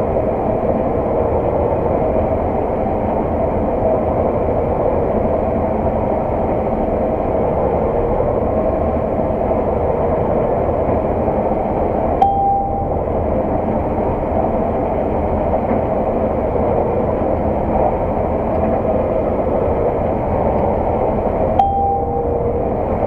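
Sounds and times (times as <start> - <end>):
machine engine droning: 0.0 - 23.0.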